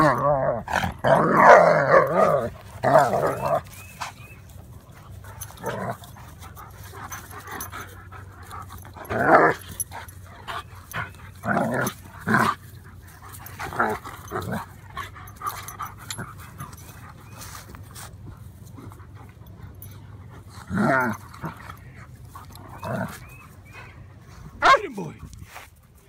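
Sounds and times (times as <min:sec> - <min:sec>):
dogs growling: 0:00.0 - 0:24.6
dogs panting: 0:02.2 - 0:26.0.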